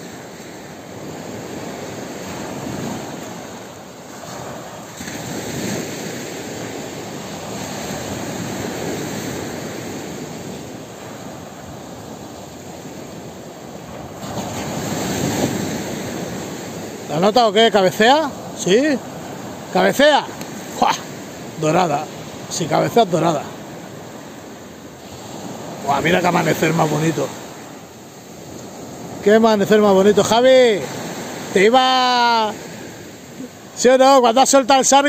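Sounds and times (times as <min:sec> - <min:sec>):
small waves breaking on beach: 0:00.0 - 0:35.0.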